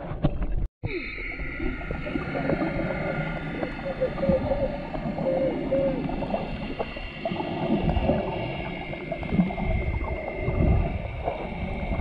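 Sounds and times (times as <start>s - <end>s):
water gurgling underwater: 0.0s - 12.0s.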